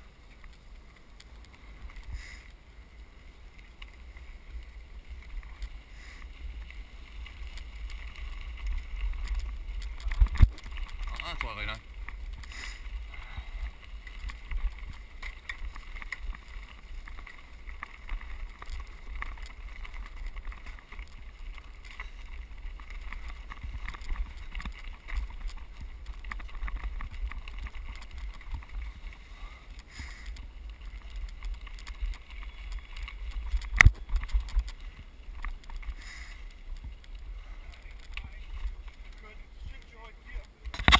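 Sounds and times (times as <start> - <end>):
tyres on gravel: 0.0 - 40.9.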